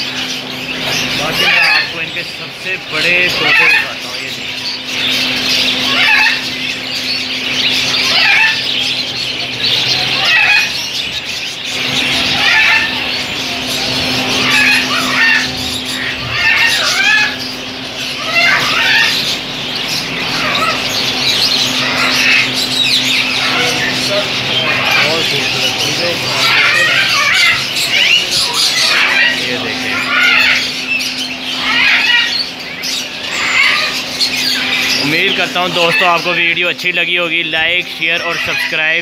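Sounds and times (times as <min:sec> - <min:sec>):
parrots squawking and chirping: 0:00.0 - 0:39.0
steady low hum: 0:00.0 - 0:39.0.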